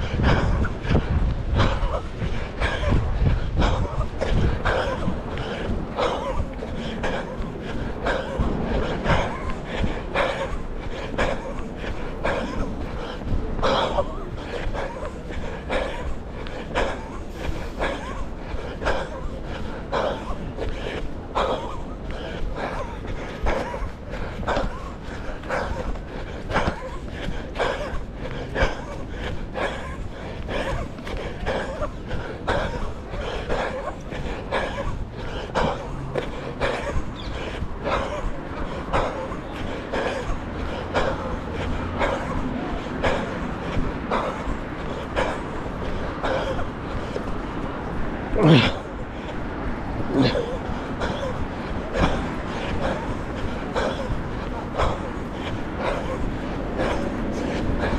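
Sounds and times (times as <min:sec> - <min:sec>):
person breathing heavily: 0:00.0 - 0:57.9
wind rumble on microphone: 0:00.0 - 0:57.9.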